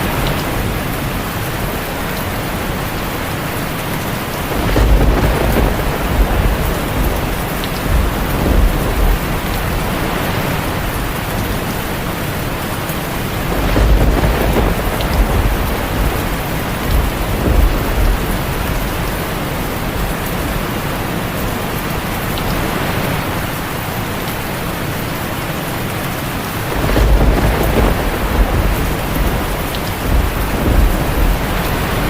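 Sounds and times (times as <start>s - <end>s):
thunder rumbling: 0.0s - 21.6s, 26.5s - 32.0s
heavy rain on a tin roof: 0.0s - 32.0s.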